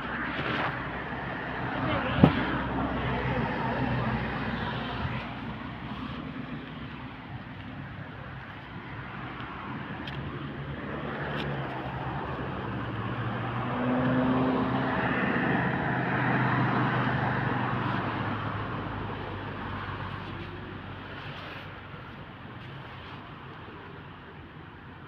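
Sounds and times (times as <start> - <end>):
passing vehicle engine: 0.0 - 23.2.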